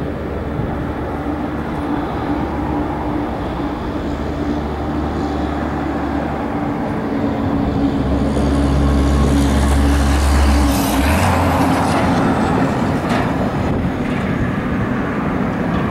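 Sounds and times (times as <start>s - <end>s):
diesel locomotive engine drone: 0.0s - 15.9s
train cars passing: 0.0s - 15.9s.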